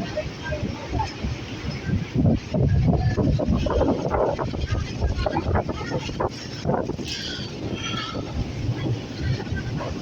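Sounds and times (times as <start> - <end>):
rain: 0.0 - 10.0
wind buffeting microphone: 0.0 - 10.0.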